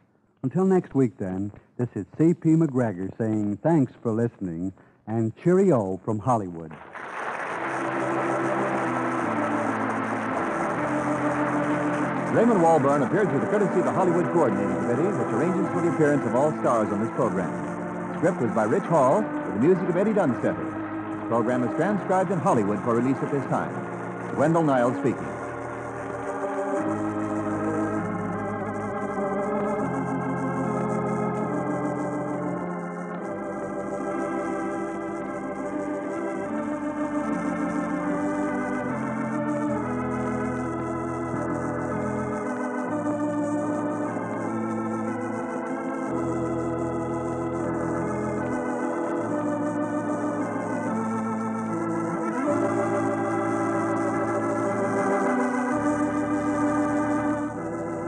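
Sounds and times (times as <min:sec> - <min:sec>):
organ music: 0:00.0 - 0:58.0.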